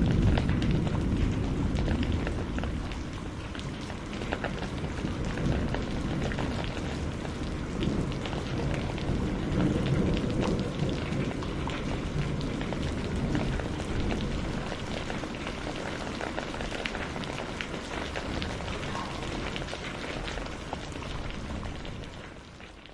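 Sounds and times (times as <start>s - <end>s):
rolling thunder rumble: 0.0s - 22.1s
heavy rain: 0.0s - 22.9s.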